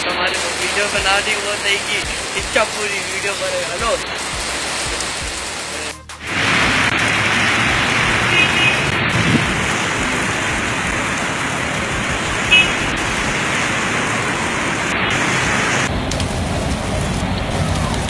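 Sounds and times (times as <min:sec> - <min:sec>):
heavy rain on flooded street: 0:00.0 - 0:18.0.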